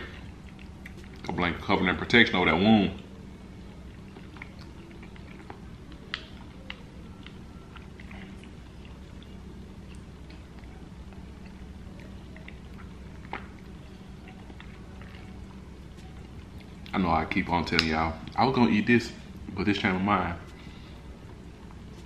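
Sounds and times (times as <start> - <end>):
wet chewing: 0.0 - 18.6
low hum: 0.0 - 22.0.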